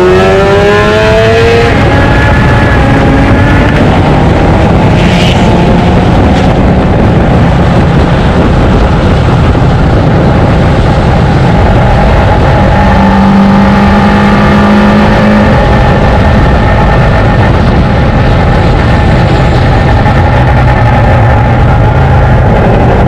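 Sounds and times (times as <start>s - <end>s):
rotary engine running hard: 0.0s - 23.0s.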